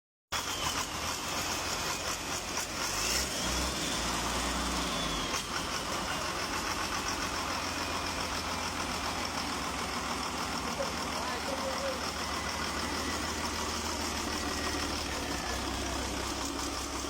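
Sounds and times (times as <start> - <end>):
engine idling: 0.3 - 17.0.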